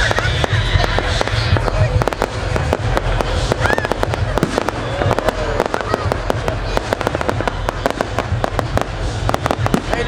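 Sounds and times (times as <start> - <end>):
fireworks bangs and crackles: 0.0 - 10.0
low rumble: 0.0 - 10.0.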